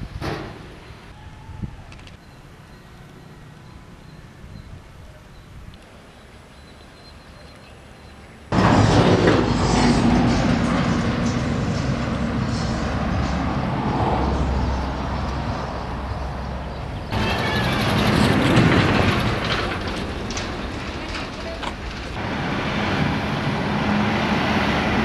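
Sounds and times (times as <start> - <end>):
outdoor noise: 0.0 - 25.0.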